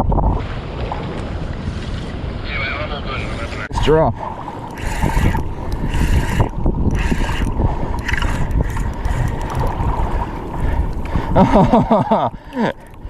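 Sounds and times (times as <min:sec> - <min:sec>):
wind buffeting microphone: 0:00.0 - 0:02.5, 0:03.4 - 0:13.0
water washing against hull: 0:00.0 - 0:13.0.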